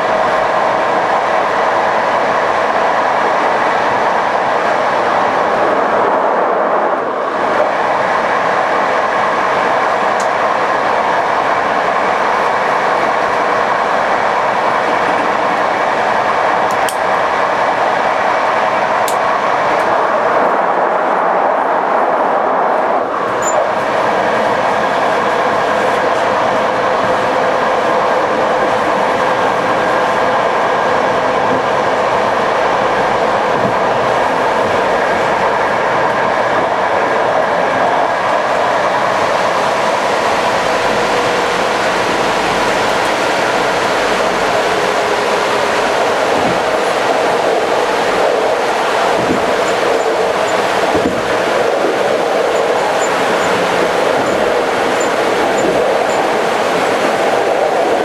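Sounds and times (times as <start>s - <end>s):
passenger train running: 0.0s - 58.0s.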